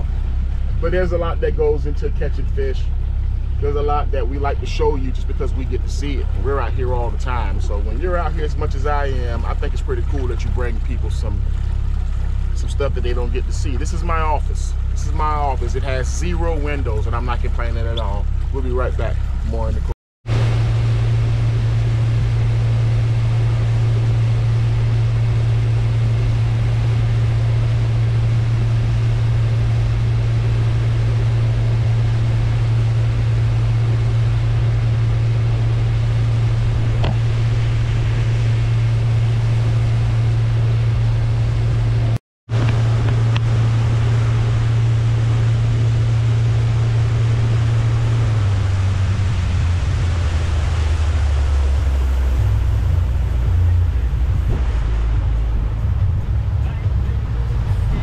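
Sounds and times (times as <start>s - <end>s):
boat engine humming: 0.0s - 58.0s
water rushing: 0.0s - 58.0s
wind: 0.0s - 58.0s.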